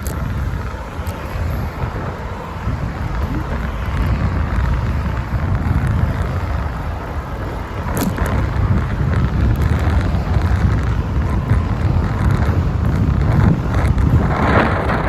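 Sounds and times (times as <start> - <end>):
road traffic: 0.0 - 15.0
wind rumbling on microphone: 0.0 - 15.0.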